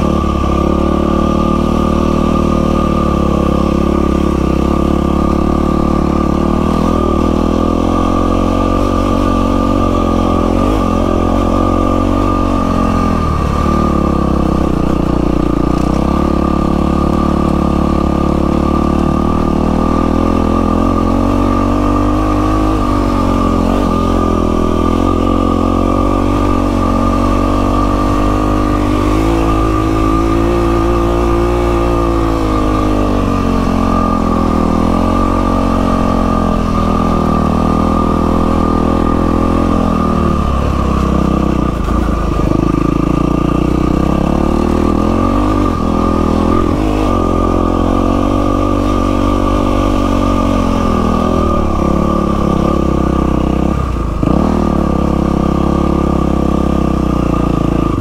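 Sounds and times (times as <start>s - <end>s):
steady high whine: 0.0s - 55.0s
dirt bike engine revving: 0.0s - 58.0s.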